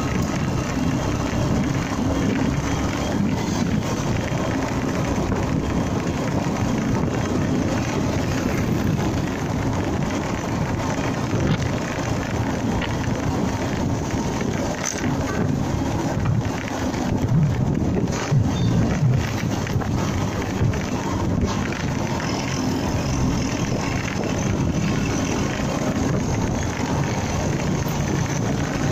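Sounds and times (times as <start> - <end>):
motorcycle engine rumble: 0.0 - 28.9
road noise: 0.0 - 28.9
wind rushing: 0.0 - 28.9.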